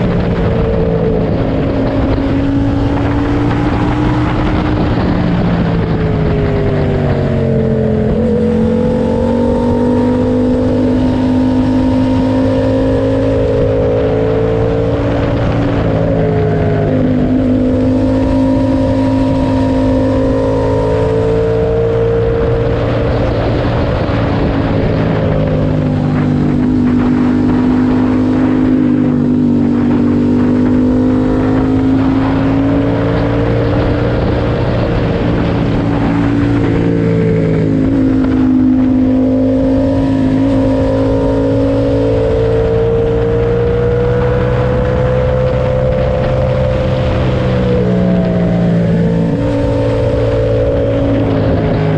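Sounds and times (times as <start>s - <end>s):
motorcycle engine revving: 0.0s - 51.9s
road and wind noise: 0.0s - 51.9s.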